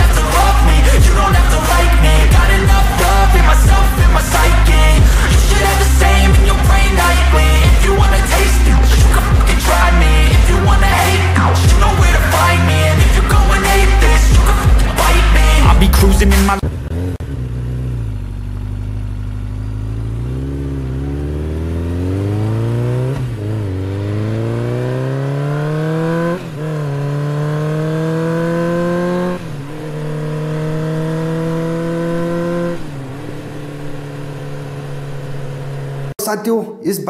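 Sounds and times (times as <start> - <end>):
motorcycle engine accelerating: 0.0 - 36.2.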